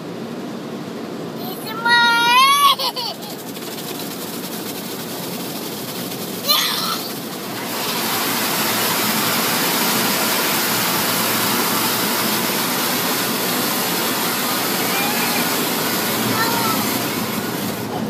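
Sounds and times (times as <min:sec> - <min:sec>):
car wash machinery and water spray: 0:00.0 - 0:18.0.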